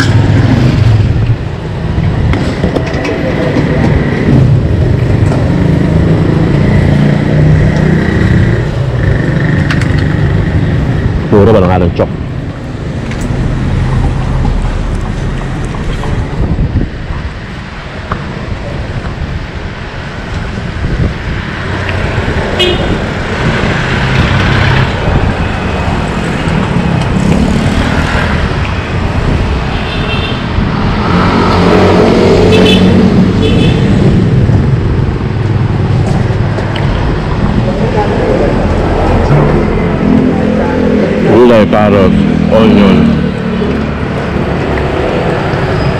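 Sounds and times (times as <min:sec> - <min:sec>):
motor vehicles passing: 0:00.0 - 0:45.9.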